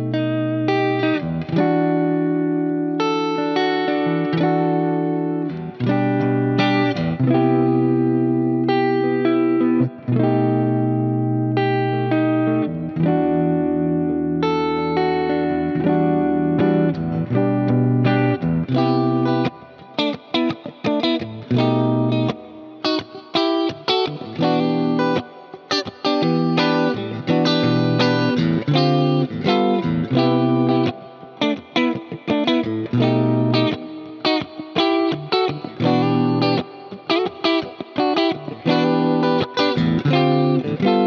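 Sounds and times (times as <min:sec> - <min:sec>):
electric guitar chords: 0:00.0 - 0:41.0.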